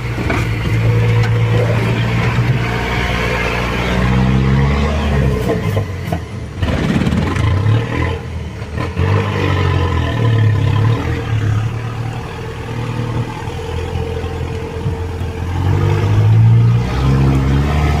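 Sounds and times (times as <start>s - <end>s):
engine running and revving: 0.0s - 18.0s.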